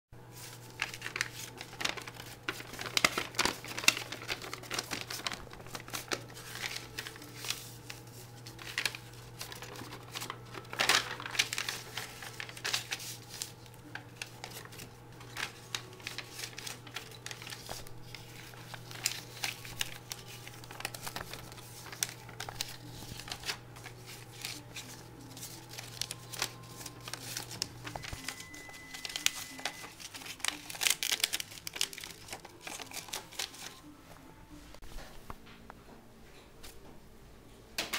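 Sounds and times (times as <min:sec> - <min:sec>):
paper crinkling and rustling: 0:00.2 - 0:35.4.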